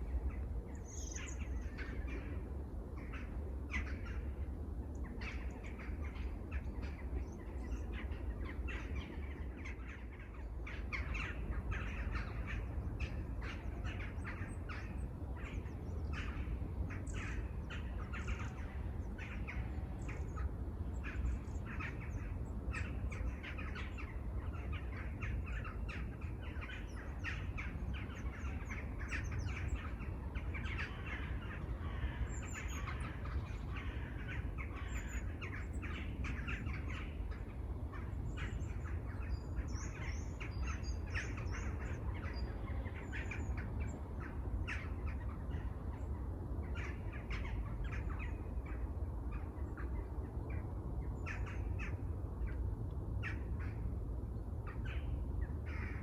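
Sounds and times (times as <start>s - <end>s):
many birds chirping: 0.0s - 56.0s.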